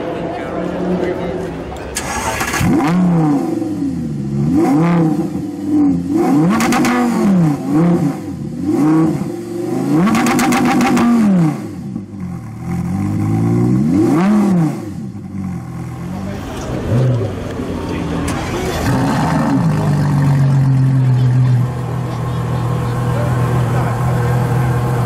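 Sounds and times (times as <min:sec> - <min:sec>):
sports car engine revving: 0:02.0 - 0:25.0.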